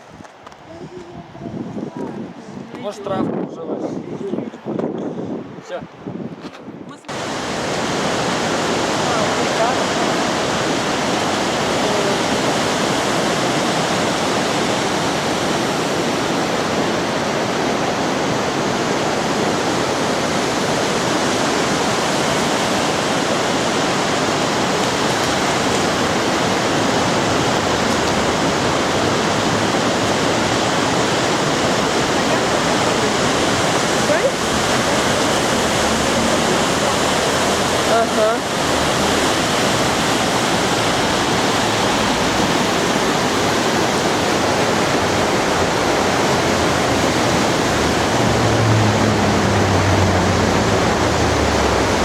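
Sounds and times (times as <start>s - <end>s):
waterfall pouring: 7.1s - 52.0s.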